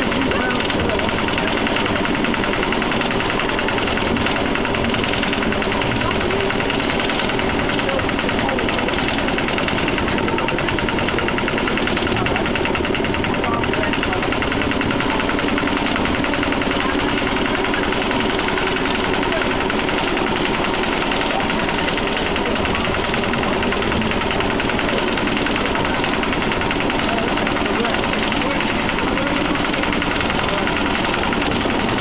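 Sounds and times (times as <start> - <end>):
diesel engine chugging: 0.0 - 32.0.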